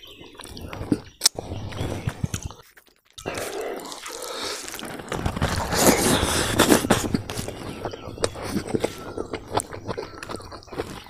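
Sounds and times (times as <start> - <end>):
person chewing and slurping: 0.0 - 11.0.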